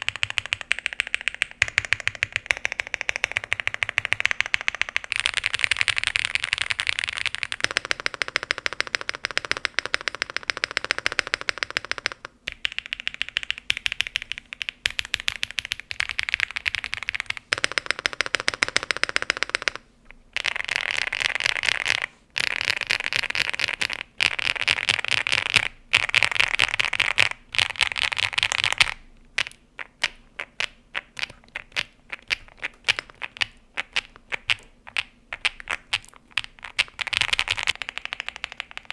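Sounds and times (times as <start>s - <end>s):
mechanical keyboard typing: 0.0s - 19.8s, 20.4s - 38.9s.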